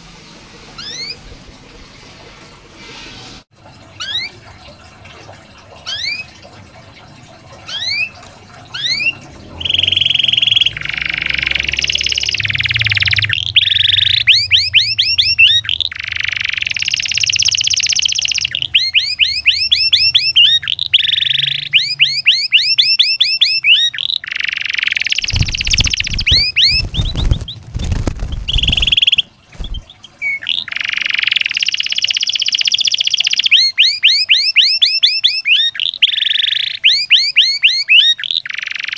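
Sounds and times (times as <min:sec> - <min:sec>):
canary singing trills: 0:00.8 - 0:01.2, 0:05.8 - 0:06.4, 0:07.6 - 0:38.9.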